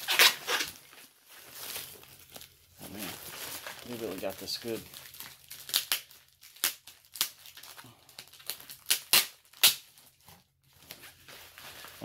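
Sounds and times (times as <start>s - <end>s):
bubble wrap crinkling and tearing: 0.0s - 12.0s.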